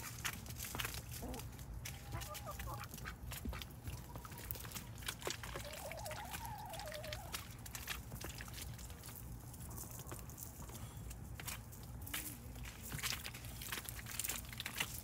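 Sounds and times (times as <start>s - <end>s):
small wet clicks and splashes: 0.0s - 15.0s.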